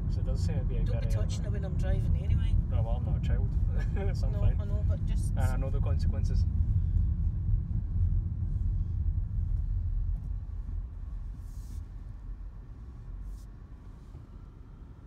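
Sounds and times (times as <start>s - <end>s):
road and engine rumble in car: 0.0s - 15.0s.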